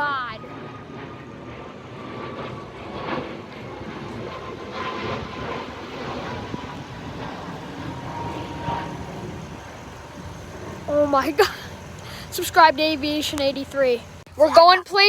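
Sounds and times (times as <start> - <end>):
airliner jet engines: 0.0 - 15.0.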